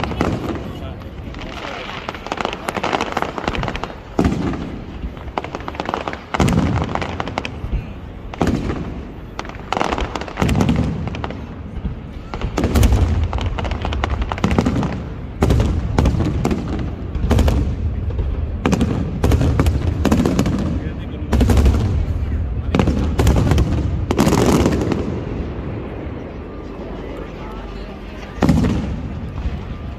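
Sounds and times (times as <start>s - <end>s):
fireworks bursting with booms: 0.0s - 29.9s.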